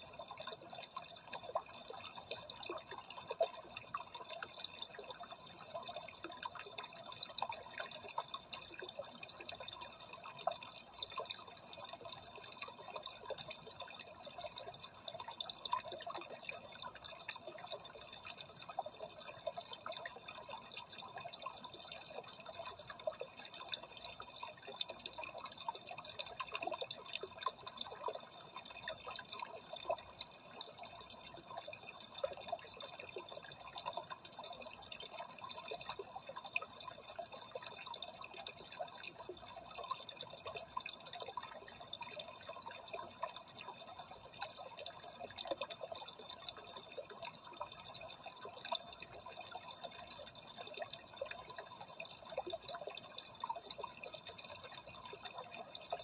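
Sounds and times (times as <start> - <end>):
aquarium water trickling: 0.0 - 56.0.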